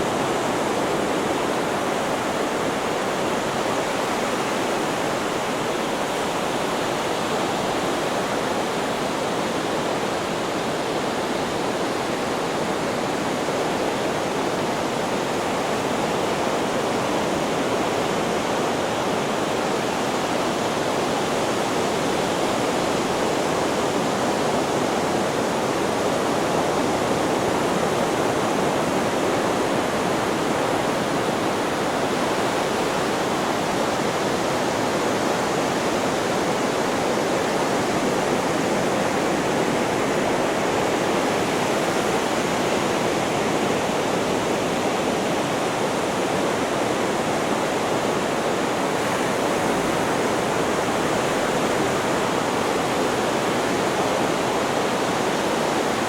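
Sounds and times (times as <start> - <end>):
white noise rushing hiss: 0.0 - 56.0.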